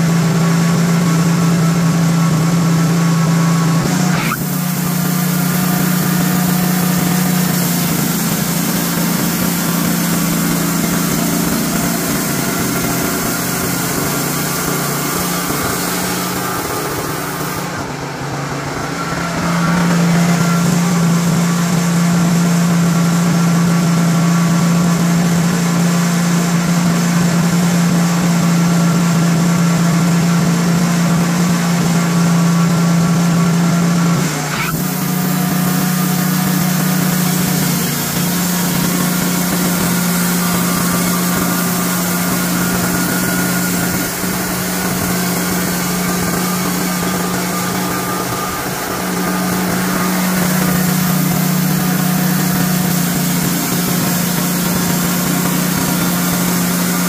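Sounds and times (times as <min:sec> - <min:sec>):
band saw cutting log: 0:00.0 - 0:26.0, 0:26.7 - 0:57.0
gasoline engine running under load: 0:00.0 - 0:57.0.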